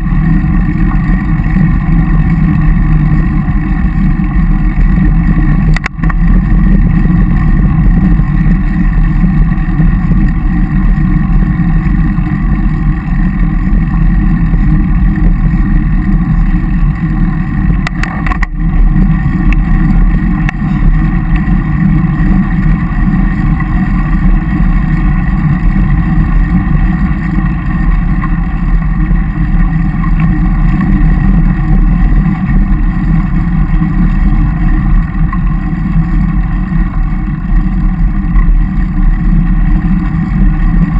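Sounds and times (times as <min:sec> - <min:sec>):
bicycle clatter: 0:00.0 - 0:40.9
wind and road vibration rumble: 0:00.0 - 0:40.9.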